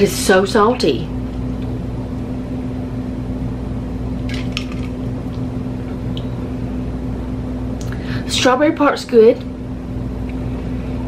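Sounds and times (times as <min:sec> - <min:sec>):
household appliance humming: 0:00.0 - 0:11.0.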